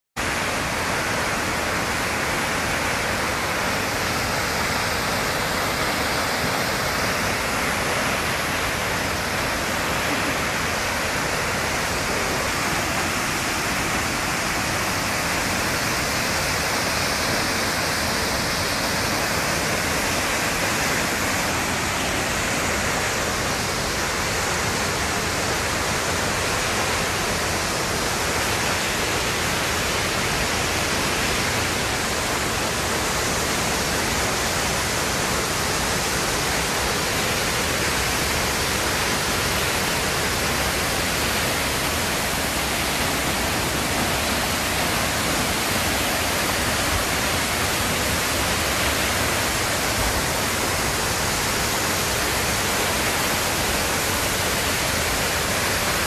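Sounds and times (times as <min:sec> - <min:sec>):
waterfall rushing: 0:00.2 - 0:56.0.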